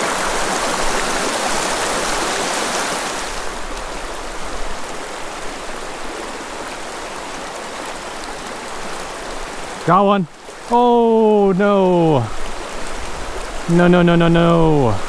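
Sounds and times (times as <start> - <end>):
creek running over stones: 0.0 - 15.0.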